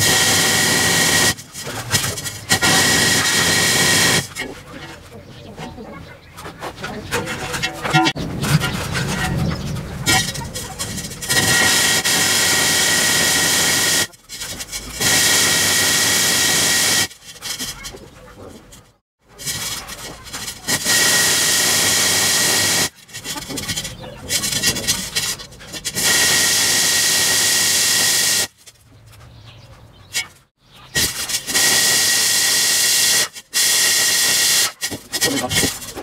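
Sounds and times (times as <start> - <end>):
drill core bit grinding brick: 0.0 - 5.0, 6.4 - 28.7, 30.1 - 36.0.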